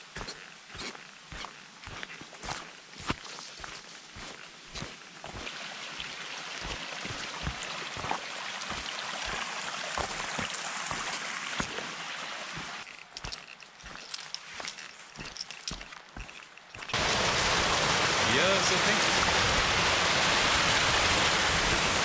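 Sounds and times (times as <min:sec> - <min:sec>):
stream rushing: 0:01.8 - 0:22.0.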